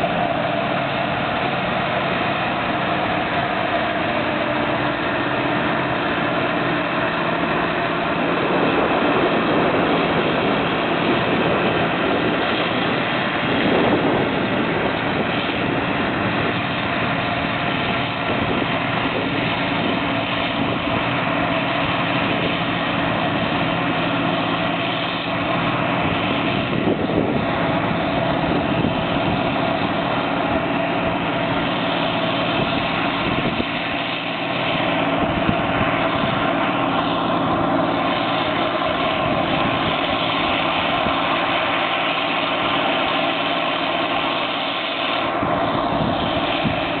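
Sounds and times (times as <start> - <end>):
combine harvester droning: 0.0 - 47.0.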